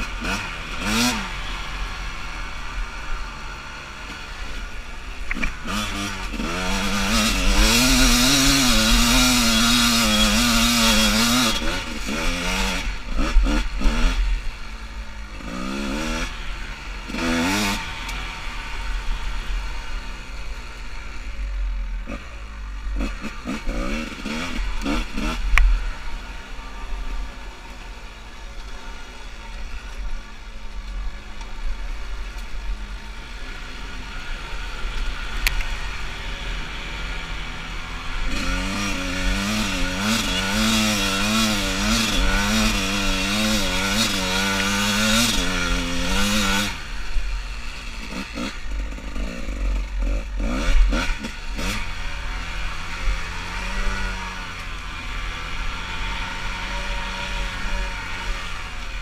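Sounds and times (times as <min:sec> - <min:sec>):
two-stroke dirt bike engine revving: 0:00.0 - 0:59.0.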